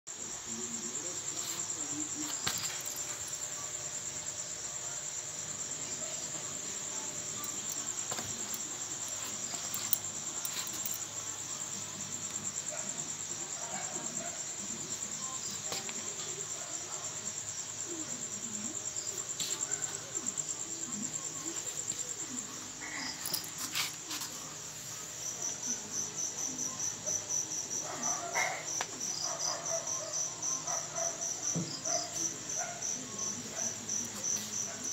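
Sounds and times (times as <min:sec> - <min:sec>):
crickets trilling: 0:00.1 - 0:34.9
sharply pulsed insect trill: 0:00.2 - 0:34.9.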